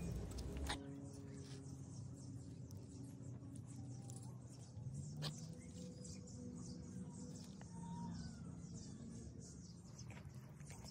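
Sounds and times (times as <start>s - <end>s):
low background hum: 0.0s - 10.9s.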